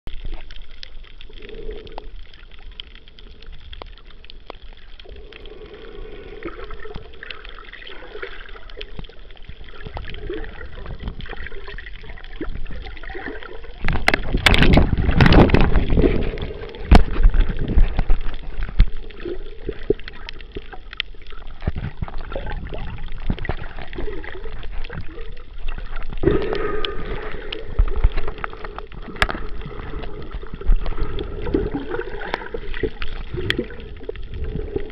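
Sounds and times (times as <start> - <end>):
muffled water gurgling underwater: 0.1 - 34.9
rush of water: 0.1 - 34.9.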